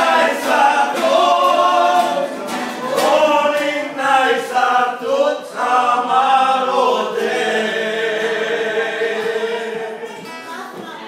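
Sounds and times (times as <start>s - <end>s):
men singing in harmony: 0.0s - 10.2s.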